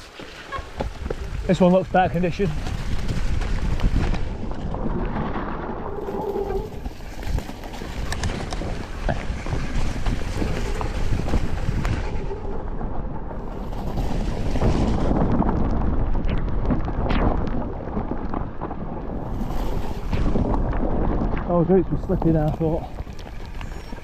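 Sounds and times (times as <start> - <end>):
wind on microphone: 0.0 - 24.0
bike knocking and rattling: 0.1 - 24.0.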